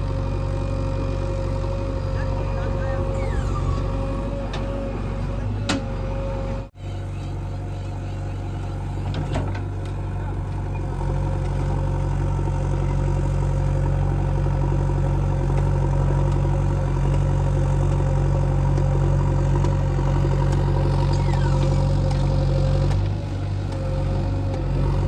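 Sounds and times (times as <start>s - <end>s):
diesel engine running: 0.0s - 25.0s
engine whine: 0.0s - 25.0s.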